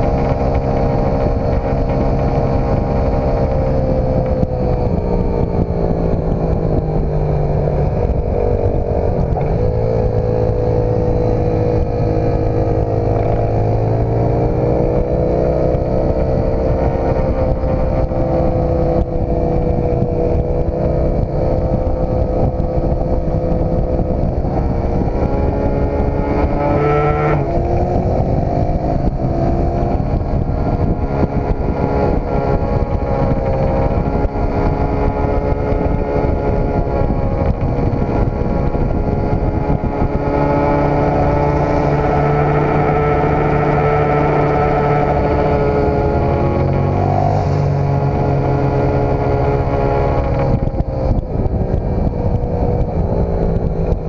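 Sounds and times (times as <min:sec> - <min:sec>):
dirt bike engine running: 0:00.0 - 0:54.0
wind rumble on microphone: 0:00.0 - 0:54.0.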